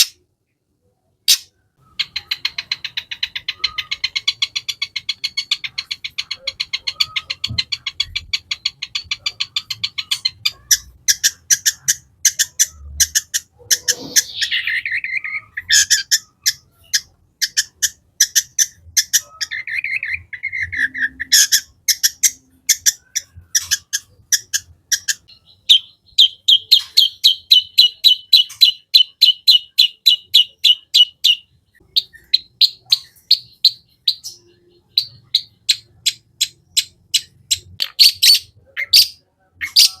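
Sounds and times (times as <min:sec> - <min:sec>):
shrike singing: 0:01.8 - 0:40.0.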